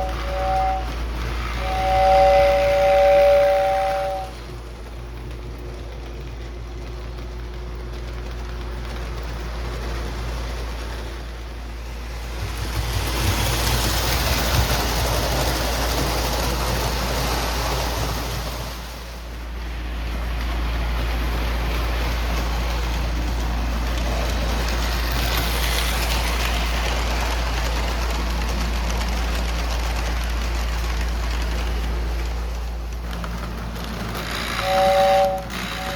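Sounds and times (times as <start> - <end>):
toy train wheels on rail: 0.0 - 19.0, 19.6 - 35.9.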